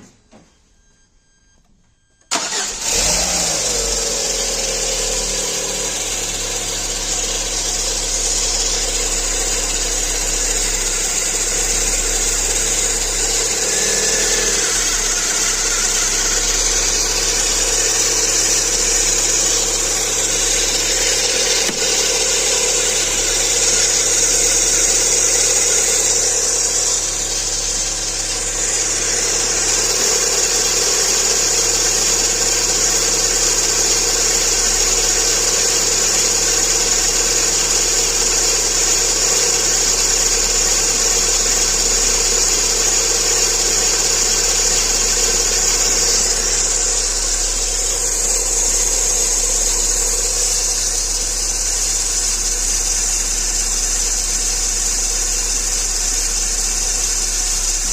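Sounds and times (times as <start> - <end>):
car engine idling: 2.3 - 57.9
high-pitched engine noise: 2.3 - 57.9.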